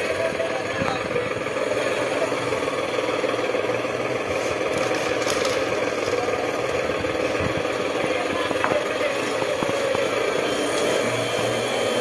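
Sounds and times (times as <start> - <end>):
small motor rattling: 0.0 - 12.0.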